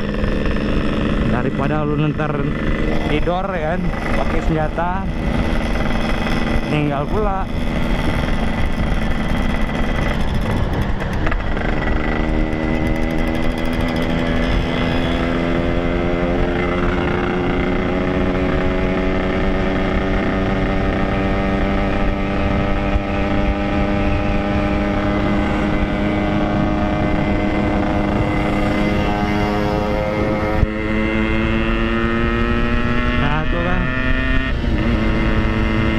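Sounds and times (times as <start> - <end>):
two-stroke engine running: 0.0 - 35.9.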